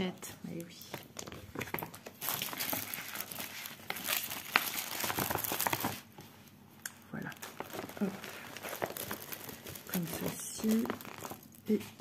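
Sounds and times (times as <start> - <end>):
plastic pouch crinkling: 0.9 - 6.2, 7.0 - 12.0.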